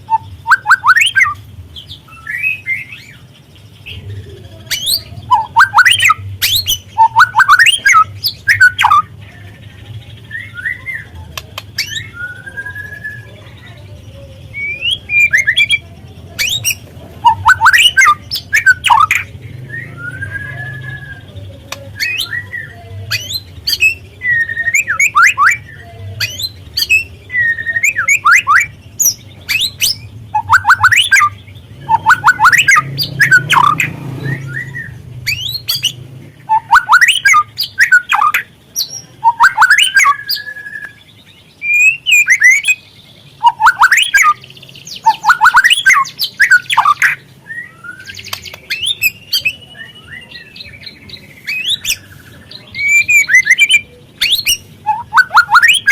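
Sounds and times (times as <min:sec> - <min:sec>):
songbird whistling and chattering: 0:00.0 - 0:55.9.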